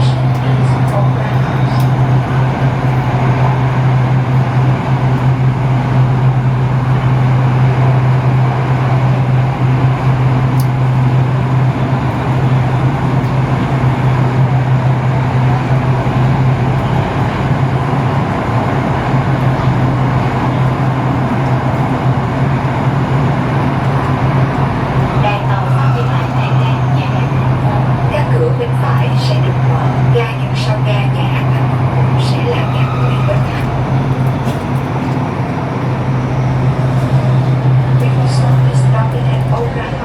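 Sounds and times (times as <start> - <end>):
constant low hum: 0.0 - 40.0
train wheels rumbling: 0.0 - 40.0.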